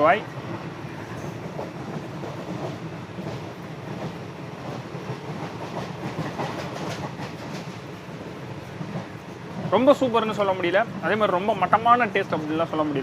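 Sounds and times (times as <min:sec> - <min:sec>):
train rumbling inside coach: 0:00.0 - 0:13.0.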